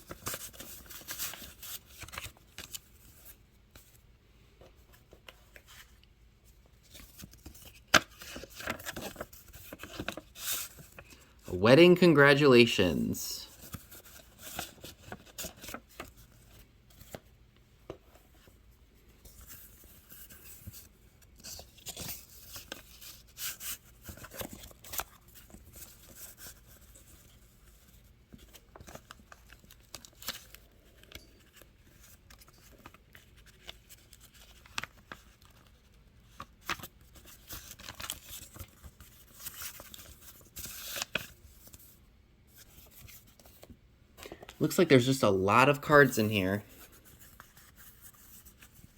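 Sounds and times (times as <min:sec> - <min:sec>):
paper cards rustling and crinkling: 0:00.0 - 0:11.6, 0:13.4 - 0:48.9.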